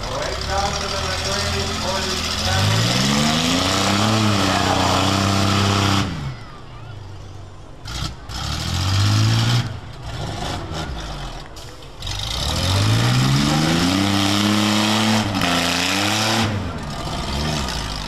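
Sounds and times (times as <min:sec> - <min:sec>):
car engines revving hard: 0:00.0 - 0:06.4, 0:07.8 - 0:18.0.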